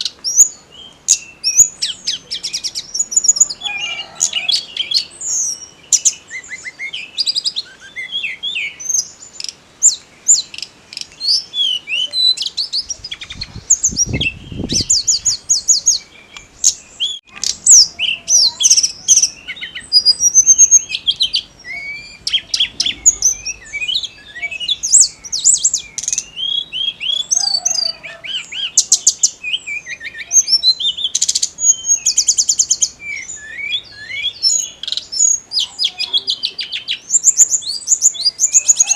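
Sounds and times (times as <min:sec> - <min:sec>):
bird singing chirps and whistles: 0:00.0 - 0:38.9.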